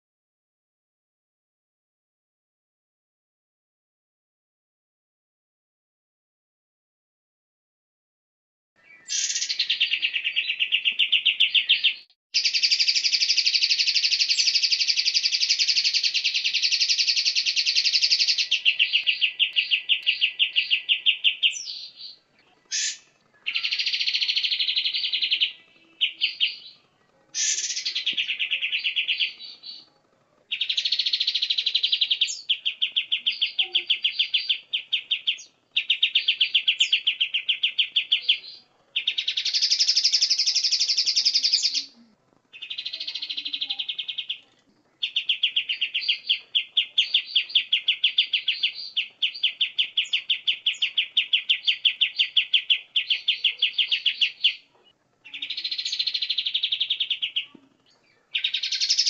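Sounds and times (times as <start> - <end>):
songbird chattering trills: 8.9 - 26.8, 27.4 - 29.9, 30.5 - 59.0.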